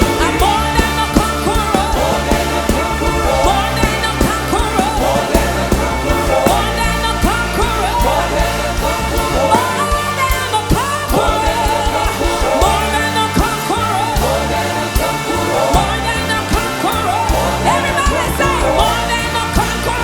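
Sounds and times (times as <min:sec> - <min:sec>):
band with repeating bass line: 0:00.0 - 0:20.0
person singing: 0:00.0 - 0:20.0.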